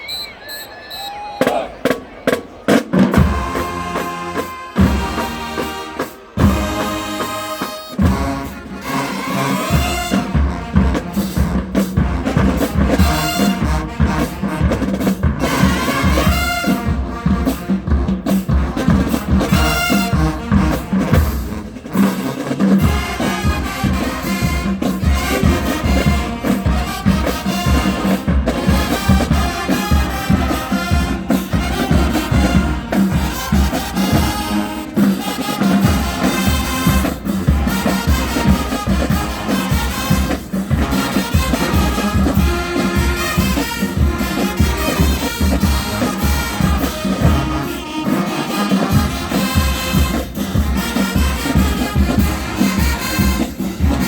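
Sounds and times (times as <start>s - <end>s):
brass instruments playing: 1.4s - 54.0s
marching drums beat: 1.4s - 54.0s.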